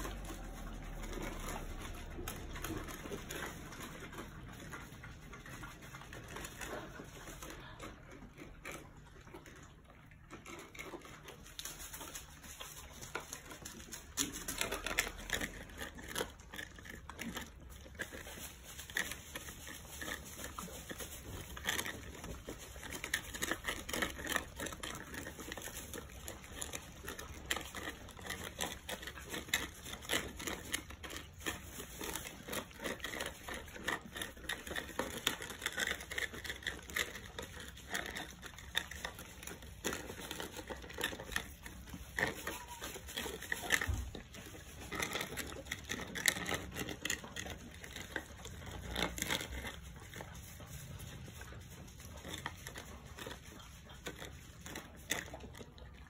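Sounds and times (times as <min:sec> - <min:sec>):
puppies crunching dry kibble: 0:00.0 - 0:56.0.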